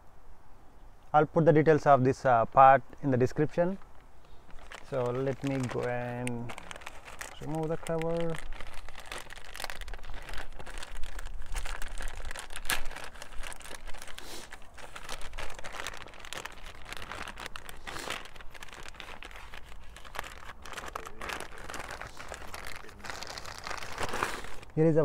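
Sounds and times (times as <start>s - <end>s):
plastic packaging crinkling: 3.3s - 24.8s.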